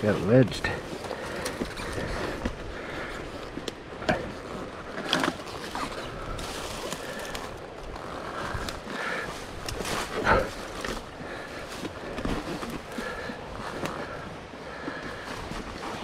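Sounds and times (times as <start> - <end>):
rumble and clatter over rough trail: 0.0 - 16.0.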